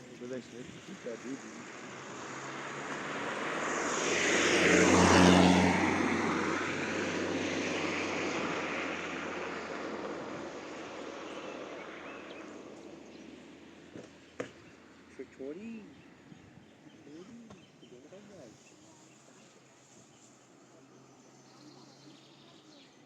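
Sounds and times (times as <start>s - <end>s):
vehicle passing by: 0.0s - 23.0s.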